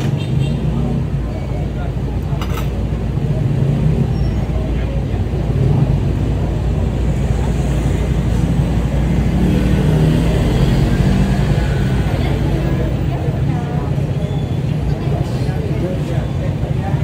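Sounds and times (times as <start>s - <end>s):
people's voices: 0.0s - 17.0s
traffic rumble: 0.0s - 17.0s.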